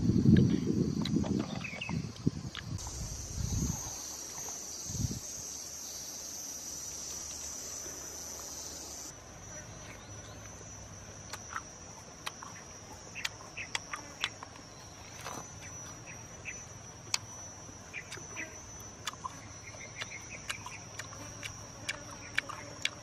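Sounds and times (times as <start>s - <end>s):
high-pitched insect drone: 1.6s - 23.0s.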